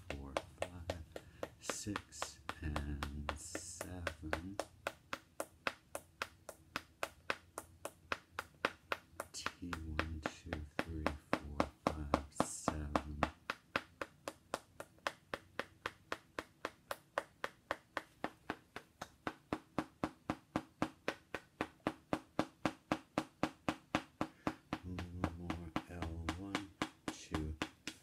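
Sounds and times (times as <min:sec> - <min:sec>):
small hammer tapping: 0:00.0 - 0:28.0.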